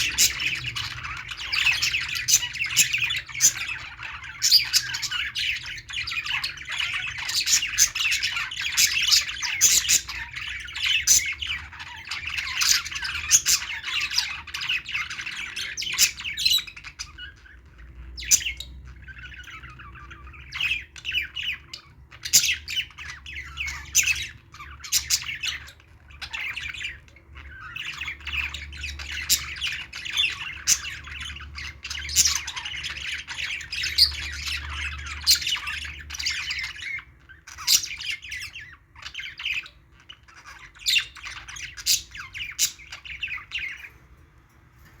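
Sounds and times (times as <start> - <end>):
parrots chirping and squawking: 0.0 - 45.0.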